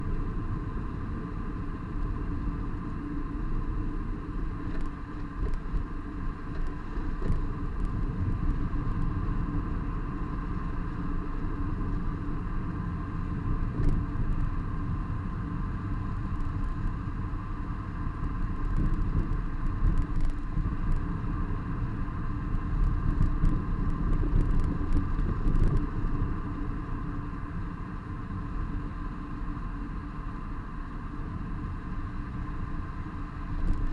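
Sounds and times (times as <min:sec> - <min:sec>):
car driving low rumble: 0:00.0 - 0:33.9.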